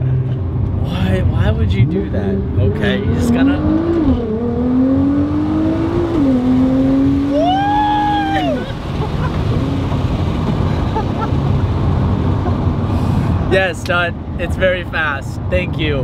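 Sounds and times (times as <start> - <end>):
car engine accelerating hard: 0.0 - 13.6
road rumble: 0.0 - 16.0.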